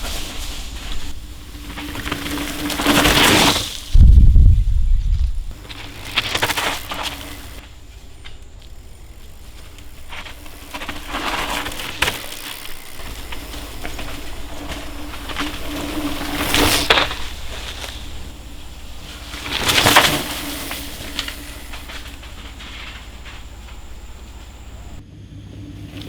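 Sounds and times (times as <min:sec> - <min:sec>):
steady low rumble: 0:00.0 - 0:03.1, 0:03.8 - 0:12.0, 0:12.6 - 0:26.0
bike tyres on dirt: 0:00.0 - 0:26.0.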